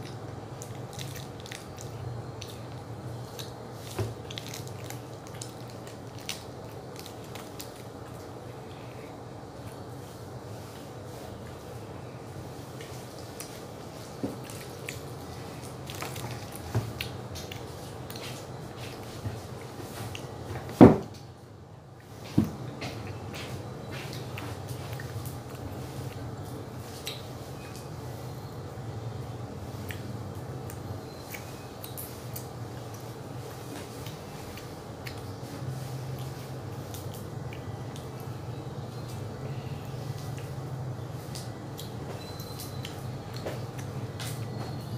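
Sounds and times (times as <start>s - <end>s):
child chewing a snack: 0.0s - 10.0s, 12.7s - 20.4s, 22.8s - 27.9s, 29.7s - 44.9s
steady low hum: 0.0s - 44.9s.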